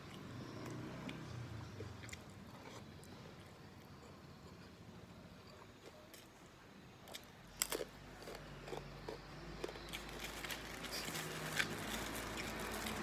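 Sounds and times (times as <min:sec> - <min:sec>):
crunching and chewing cracker: 0:00.0 - 0:04.8, 0:05.4 - 0:06.4, 0:07.0 - 0:13.0.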